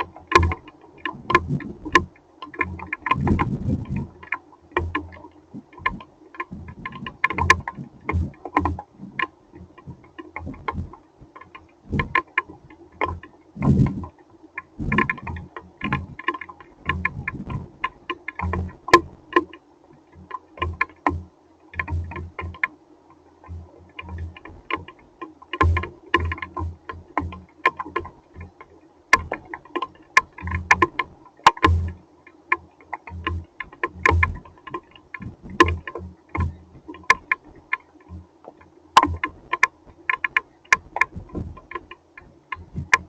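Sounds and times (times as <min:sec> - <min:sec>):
faint hum: 0:00.0 - 0:43.0.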